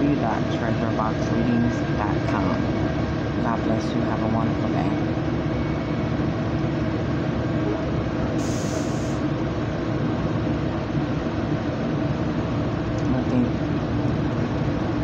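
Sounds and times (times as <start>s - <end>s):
passenger train rumble: 0.0s - 15.0s.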